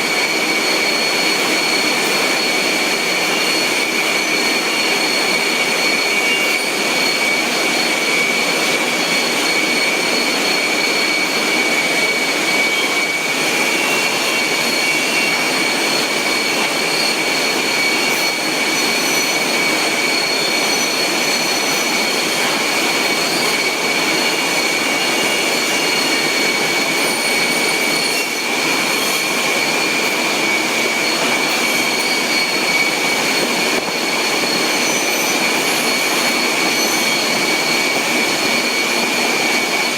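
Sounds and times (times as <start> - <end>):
machinery noise with high whine: 0.0 - 39.9.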